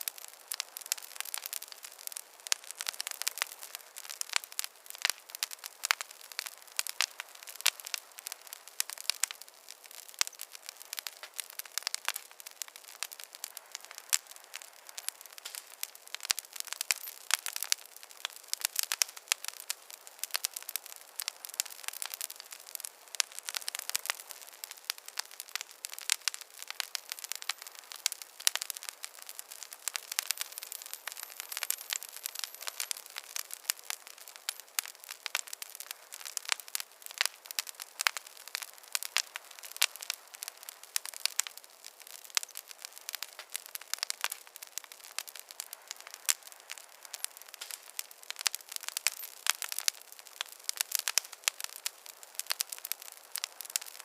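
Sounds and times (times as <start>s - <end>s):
faint steady hiss: 0.0s - 54.0s
fire crackling: 0.0s - 54.0s.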